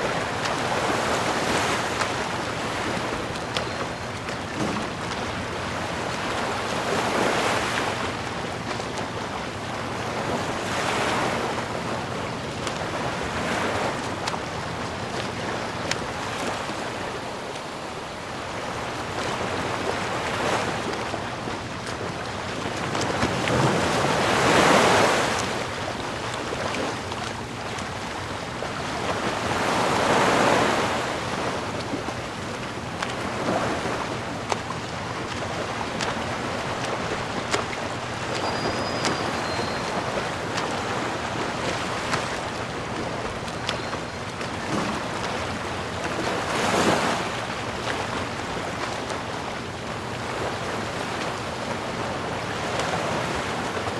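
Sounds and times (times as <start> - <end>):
sea waves washing in: 0.0 - 53.9.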